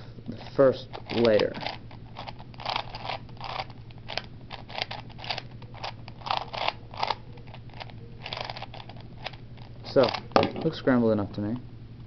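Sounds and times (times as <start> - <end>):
puzzle cube clicking turns: 0.4 - 10.3.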